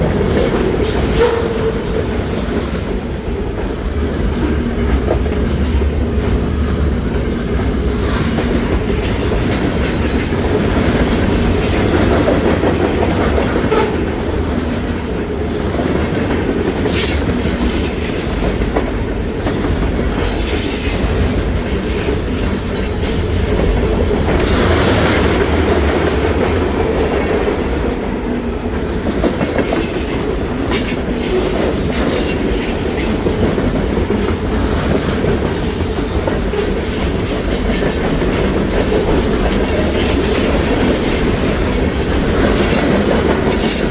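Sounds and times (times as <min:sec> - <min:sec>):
train wheels clacking over rail joints: 0:00.0 - 0:28.0, 0:28.6 - 0:43.9
freight train rumble: 0:00.0 - 0:43.9.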